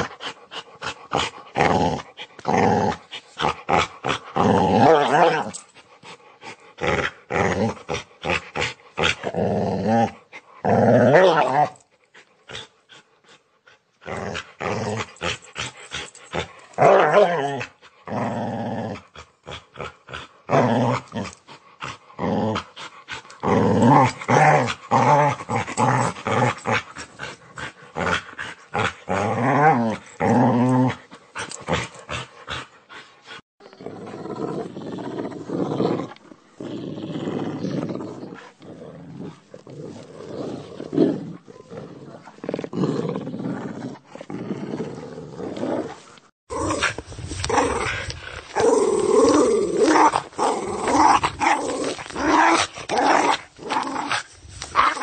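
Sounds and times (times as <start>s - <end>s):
dog snarling and growling: 0.0s - 13.4s, 14.0s - 55.0s.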